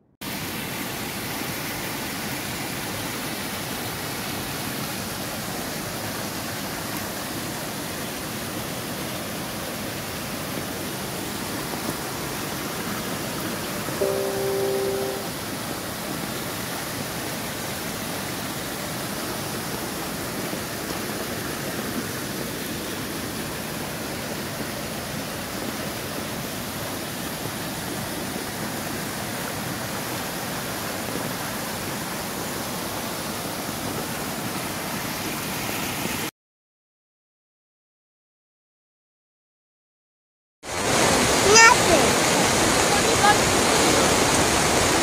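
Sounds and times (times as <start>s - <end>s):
floodwater rushing over rocks: 0.2s - 36.3s, 40.7s - 45.0s.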